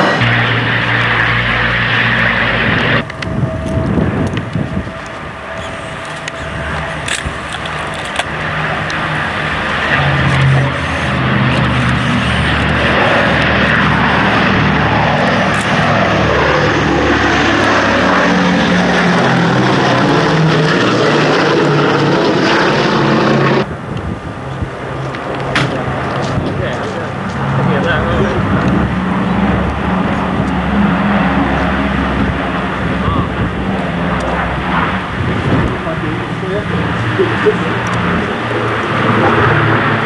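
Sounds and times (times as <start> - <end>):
propeller plane engines droning: 0.0 - 40.0.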